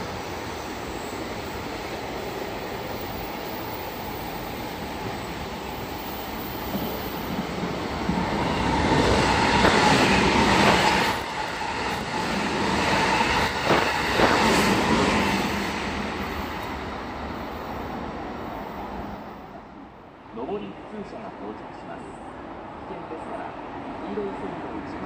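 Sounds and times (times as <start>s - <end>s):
freight train moving: 0.0s - 25.0s
passenger train passing: 0.0s - 25.0s.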